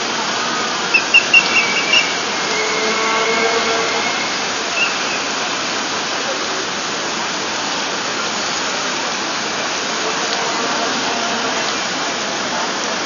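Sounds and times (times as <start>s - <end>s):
rain falling on umbrellas: 0.0s - 13.0s.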